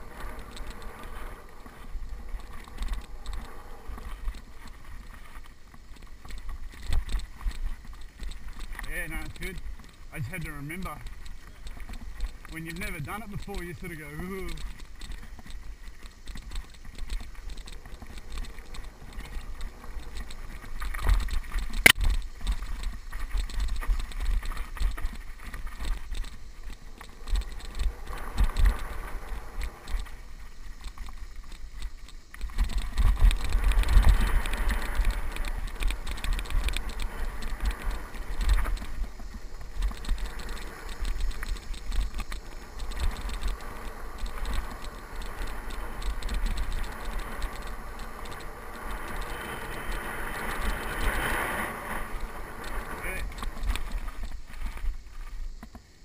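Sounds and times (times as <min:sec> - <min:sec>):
bike rattling over bumps: 0:00.0 - 0:56.0
tyres on dirt: 0:00.0 - 0:56.0
wind rumbling on microphone: 0:00.0 - 0:56.0.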